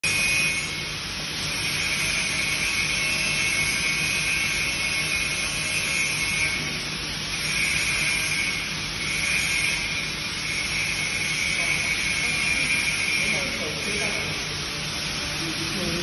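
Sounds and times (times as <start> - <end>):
machine running with high whine: 0.0 - 16.0.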